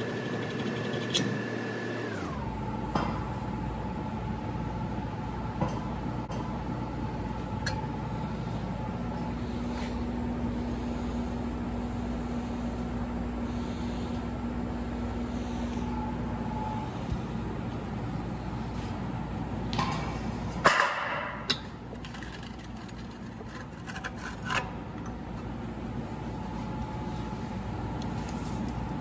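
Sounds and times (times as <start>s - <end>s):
machine hum with whine: 0.0s - 29.0s.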